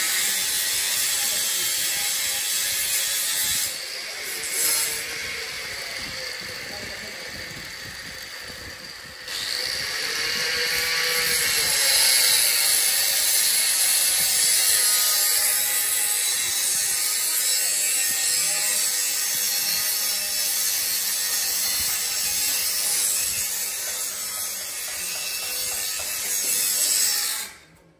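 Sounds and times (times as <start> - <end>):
tool rasping: 0.0 - 27.6.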